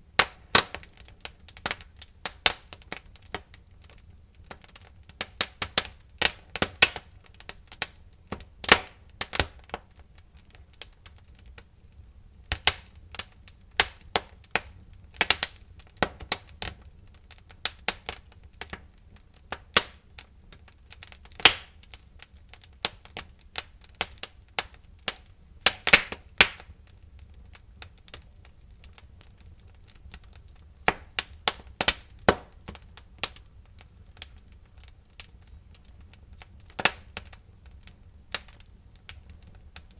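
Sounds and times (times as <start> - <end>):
wood fire crackling: 0.0 - 39.9
fire pops and snaps: 0.1 - 39.9.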